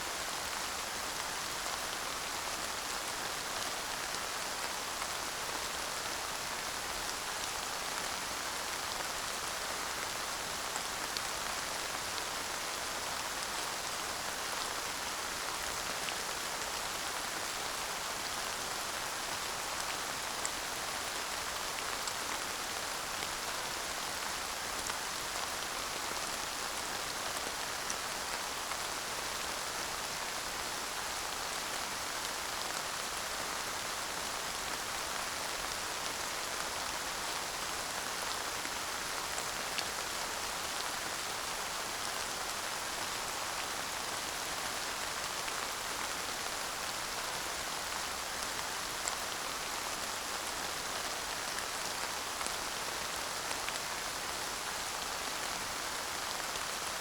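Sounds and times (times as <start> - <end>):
light rain hiss: 0.0 - 57.0.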